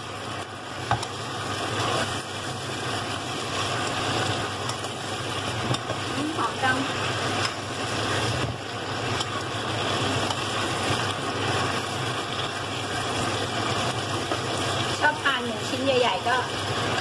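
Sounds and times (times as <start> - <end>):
food sizzling in a wok: 0.0 - 17.0
spatula scraping a wok: 0.9 - 16.0.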